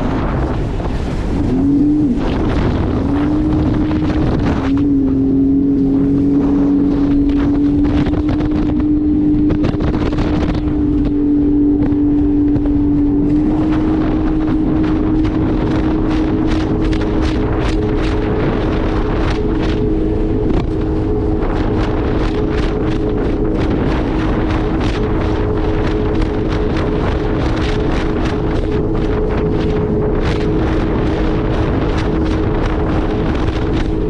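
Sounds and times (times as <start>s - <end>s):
jet ski engine running: 0.0s - 34.0s
water rushing and slapping: 0.0s - 34.0s
wind buffeting microphone: 0.0s - 34.0s.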